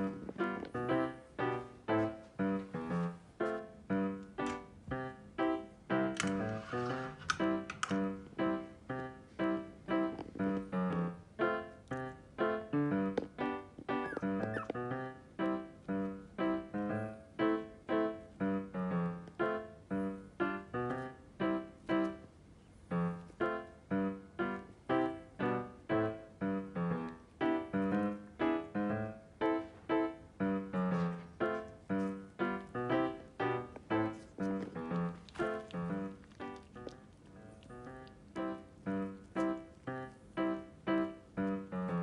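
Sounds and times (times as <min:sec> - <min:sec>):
piano music: 0:00.0 - 0:42.0.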